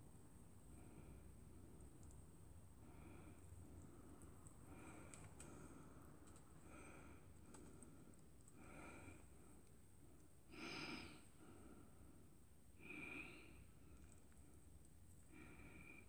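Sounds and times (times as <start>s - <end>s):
faint breathing through nose: 0.6s - 16.0s.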